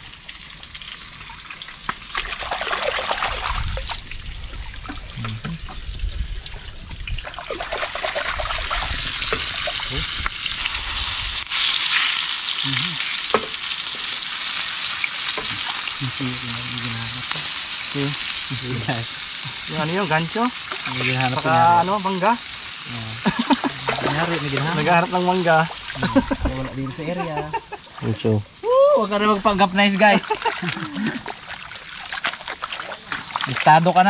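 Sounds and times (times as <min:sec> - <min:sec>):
fish sizzling in hot oil: 0:00.0 - 0:27.9, 0:29.0 - 0:34.0.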